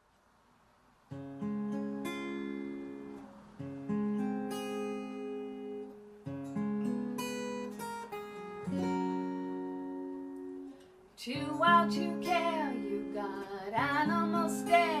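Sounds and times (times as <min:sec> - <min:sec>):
acoustic guitar chords: 0:01.1 - 0:15.0.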